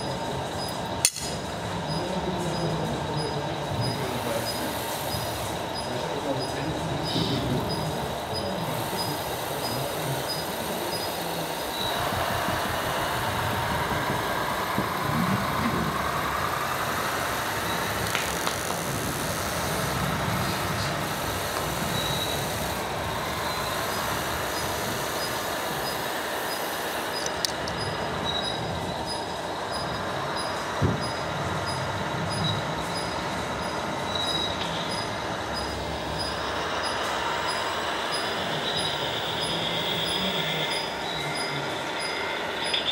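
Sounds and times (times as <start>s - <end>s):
hydraulic pump whining: 0.0s - 42.9s
steady mechanical noise: 0.0s - 42.9s.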